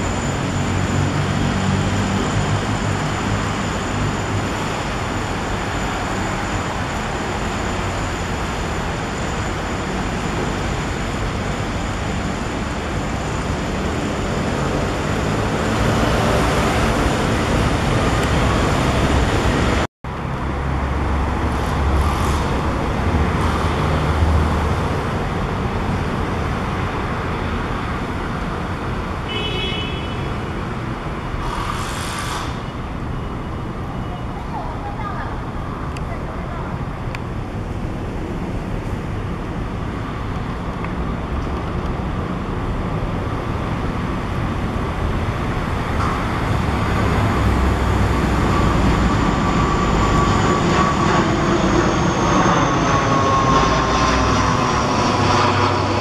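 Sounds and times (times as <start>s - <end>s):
airplane roar overhead: 0.0s - 56.0s.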